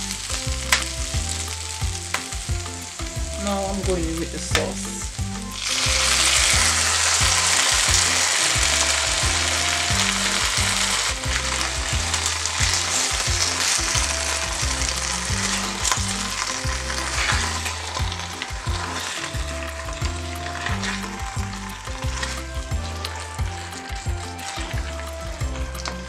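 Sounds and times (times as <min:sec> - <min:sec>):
sauce sizzling in a hot wok: 0:00.0 - 0:26.0.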